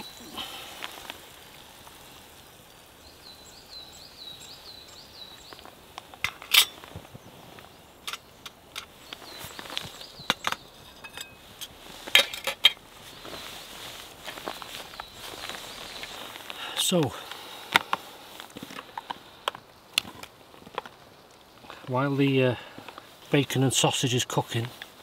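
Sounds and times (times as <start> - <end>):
bacon and sausage sizzling: 0.0 - 21.8.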